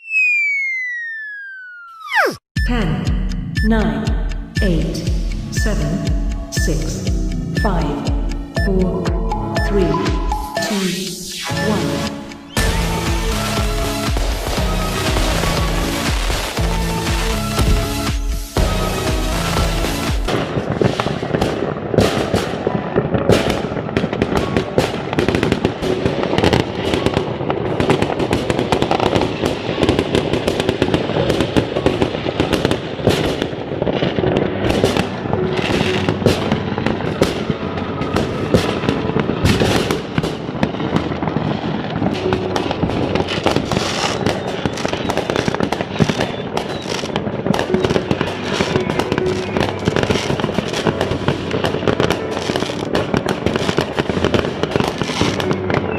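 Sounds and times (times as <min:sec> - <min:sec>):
fireworks bangs and crackles: 0:00.0 - 0:02.4, 0:03.2 - 0:55.9.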